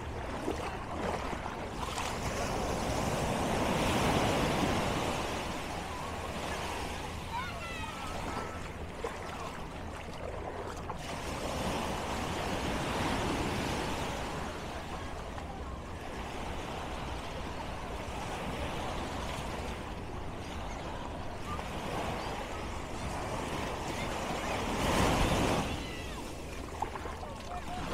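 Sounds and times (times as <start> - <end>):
surf waves breaking: 0.0 - 27.9.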